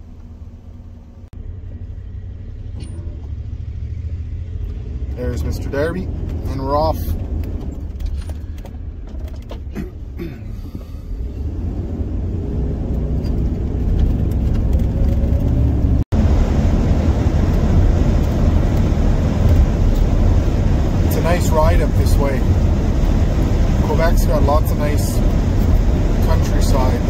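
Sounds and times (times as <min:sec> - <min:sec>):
road noise: 0:00.0 - 0:27.0
van engine accelerating: 0:00.0 - 0:27.0.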